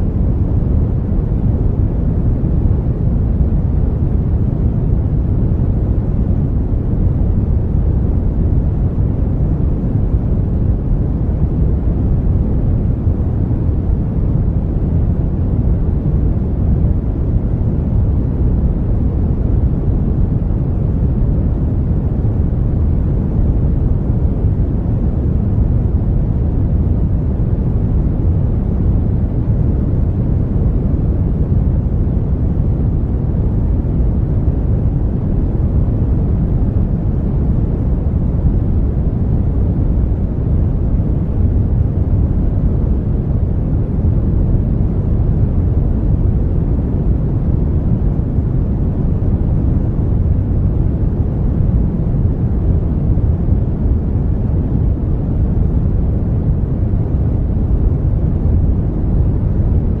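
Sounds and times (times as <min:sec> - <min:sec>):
brown noise: 0:00.0 - 1:00.0.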